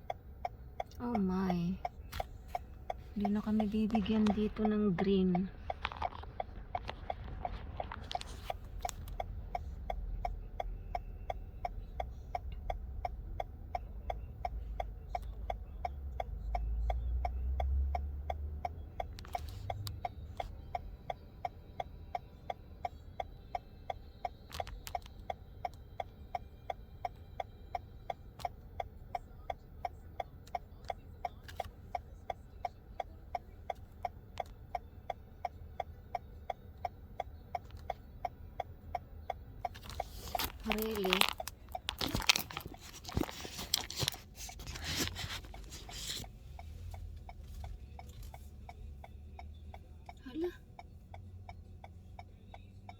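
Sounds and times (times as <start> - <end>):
car indicator ticking: 0.0 - 52.9.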